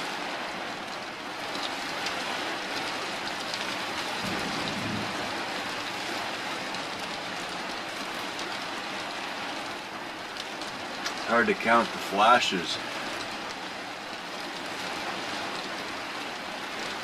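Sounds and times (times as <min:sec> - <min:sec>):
rain on a roof: 0:00.0 - 0:17.0.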